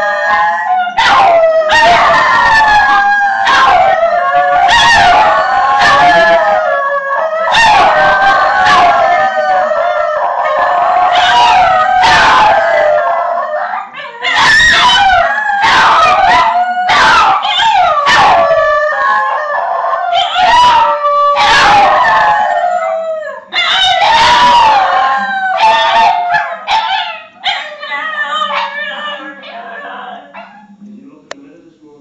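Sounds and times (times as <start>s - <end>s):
dogs howling: 0.0s - 30.8s.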